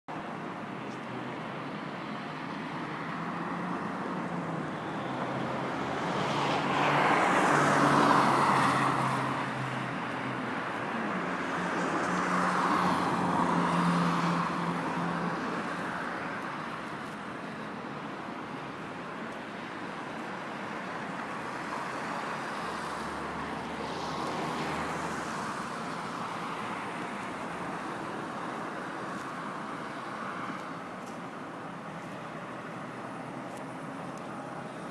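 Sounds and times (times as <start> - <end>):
steady road hum: 0.1 - 34.9
cars driving past: 2.8 - 16.8, 19.8 - 34.9.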